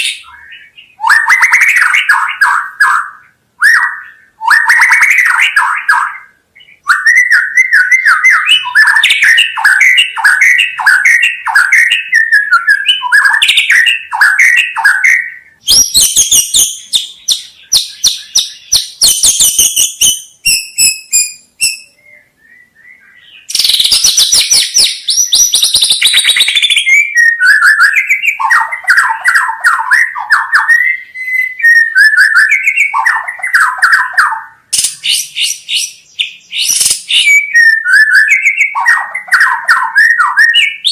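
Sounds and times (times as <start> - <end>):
high-pitched rattling bird chatter: 0.0 - 22.0, 23.2 - 40.9
songbird singing varied phrases: 0.0 - 40.9.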